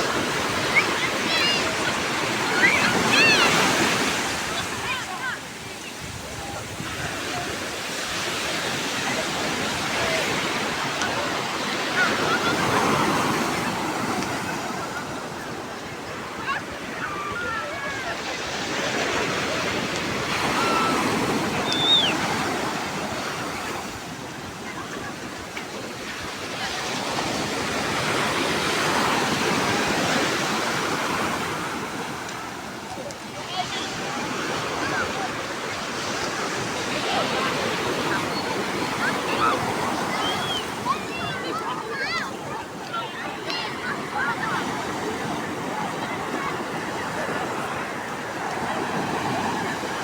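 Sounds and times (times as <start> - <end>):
breaking waves: 0.0 - 50.0.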